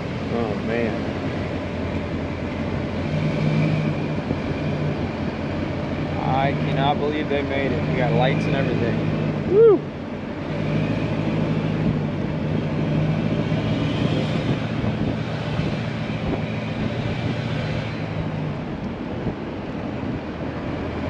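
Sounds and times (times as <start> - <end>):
road and wind noise: 0.0 - 21.0
truck engine running: 0.0 - 21.0.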